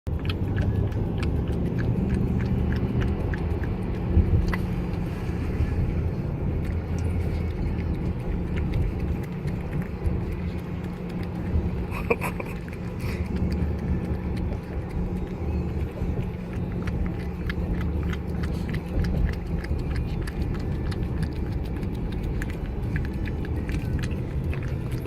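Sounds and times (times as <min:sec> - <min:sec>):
vehicle running low rumble: 0:00.1 - 0:25.0.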